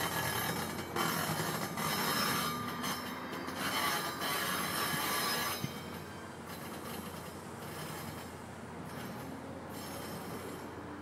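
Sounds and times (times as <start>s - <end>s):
train wheels grinding on rails: 0.0s - 11.0s.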